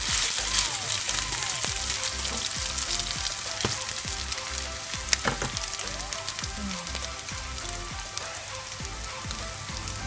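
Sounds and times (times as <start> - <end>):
noodles sizzling in oil: 0.0 - 10.0.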